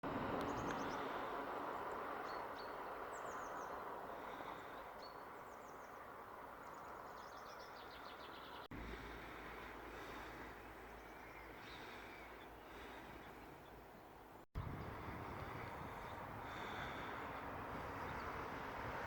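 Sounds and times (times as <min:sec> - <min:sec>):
outdoor background noise: 0:00.0 - 0:19.0
small birds chirping: 0:00.4 - 0:19.0.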